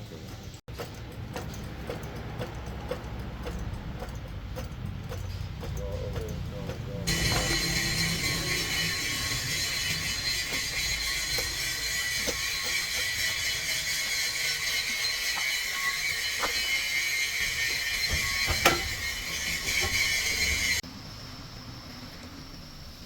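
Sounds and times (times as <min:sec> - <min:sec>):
metallic clicks: 0:00.1 - 0:20.8
mechanical whirring: 0:00.4 - 0:20.8.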